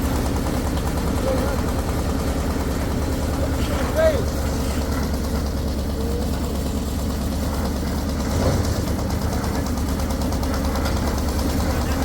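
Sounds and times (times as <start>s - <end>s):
heavy engine chugging: 0.0s - 12.0s.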